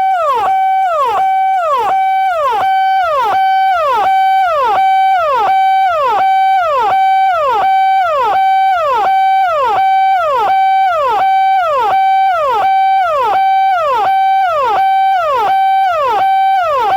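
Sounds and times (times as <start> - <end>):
electronic siren wailing: 0.0 - 16.9.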